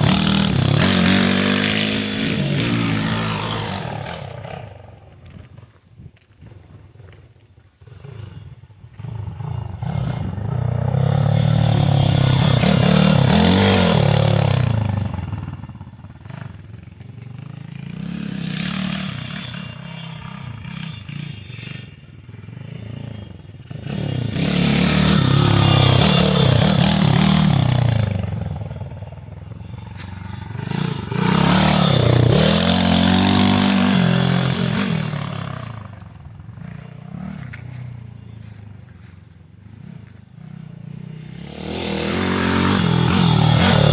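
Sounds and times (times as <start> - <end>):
motorbike engine revving: 0.0 - 5.8, 6.4 - 43.9.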